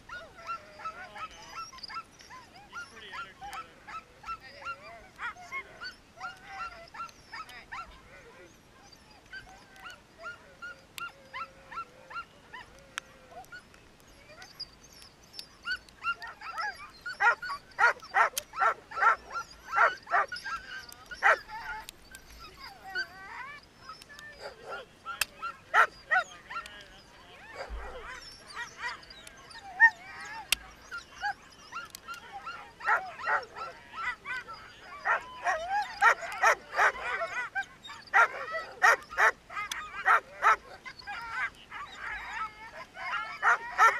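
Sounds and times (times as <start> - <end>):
dogs barking and yipping: 0.0 - 43.9
dogs whining: 0.0 - 43.9.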